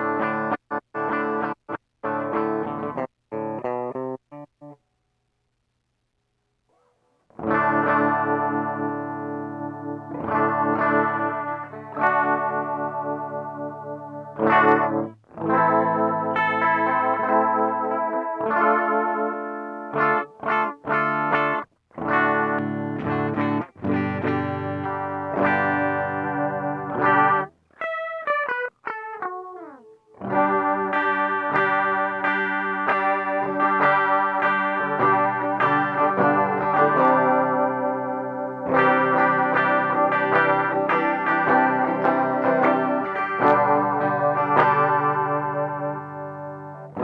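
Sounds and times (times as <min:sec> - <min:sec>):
electric guitar chords: 0:00.0 - 0:04.8, 0:07.3 - 0:47.0.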